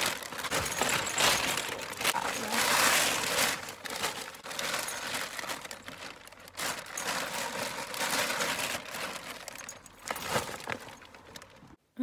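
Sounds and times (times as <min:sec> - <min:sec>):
plastic bag rustling: 0:00.0 - 0:11.8.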